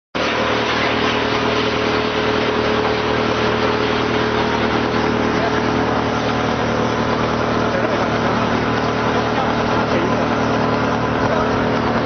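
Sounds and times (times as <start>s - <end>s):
wood chipper running: 0.2s - 12.0s.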